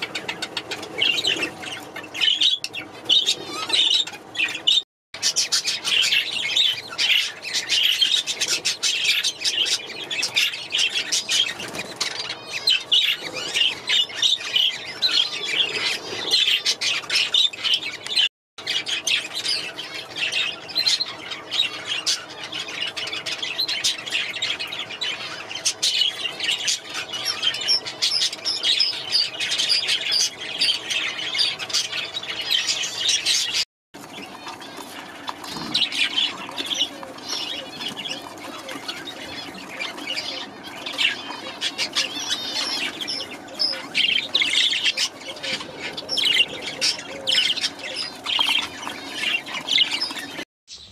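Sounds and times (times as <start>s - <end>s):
budgerigars chattering and squawking: 0.0s - 50.9s.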